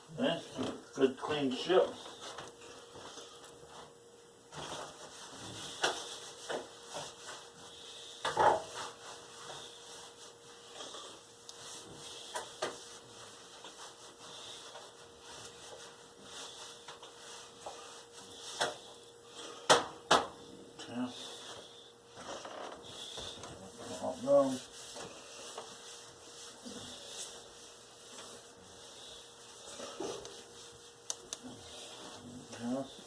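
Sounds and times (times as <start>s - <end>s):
light rubbing on a counter: 0.3s - 19.7s, 20.8s - 33.0s.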